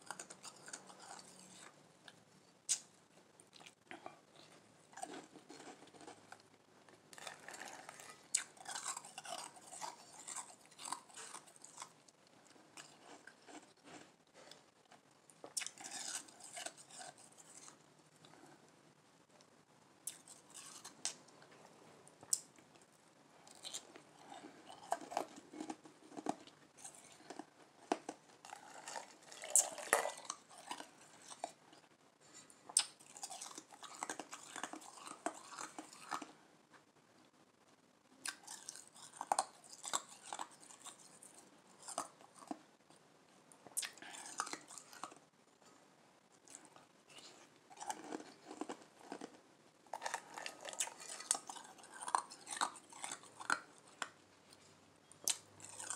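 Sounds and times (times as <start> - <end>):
person chewing ice: 0.0 - 6.5, 7.1 - 18.6, 20.1 - 21.6, 22.2 - 36.4, 38.2 - 42.7, 43.7 - 45.2, 46.4 - 55.9.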